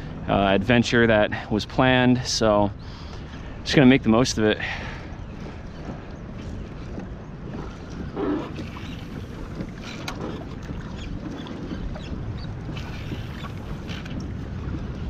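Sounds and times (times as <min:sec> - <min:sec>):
water washing along kayak hull: 0:00.0 - 0:15.0
wind on microphone: 0:02.6 - 0:15.0.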